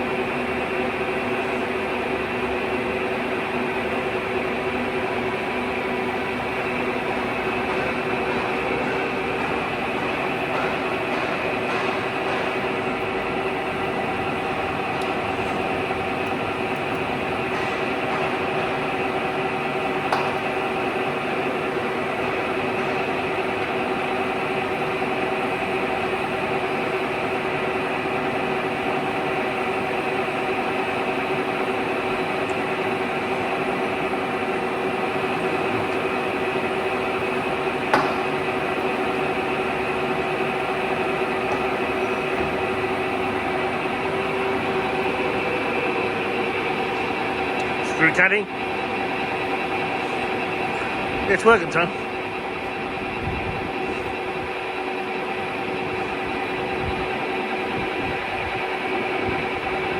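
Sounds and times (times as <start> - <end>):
lathe machine hum: 0.0 - 59.9.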